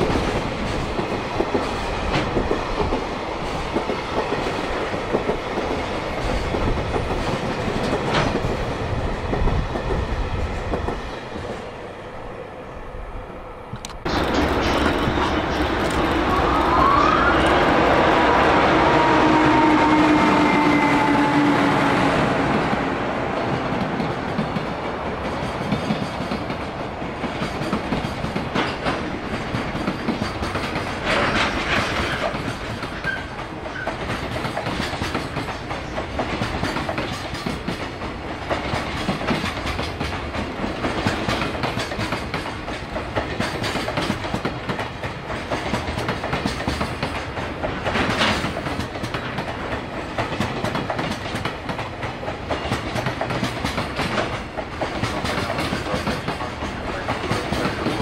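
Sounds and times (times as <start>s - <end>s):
train wheels clickety-clack: 0.0s - 11.7s, 13.7s - 17.8s, 19.0s - 58.0s
electric locomotive whine: 0.0s - 58.0s.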